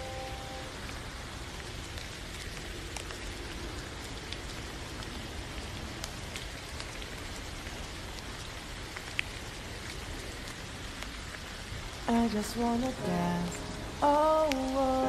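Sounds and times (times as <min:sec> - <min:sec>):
rain hiss: 0:00.0 - 0:15.0
raindrops tapping: 0:00.0 - 0:15.0.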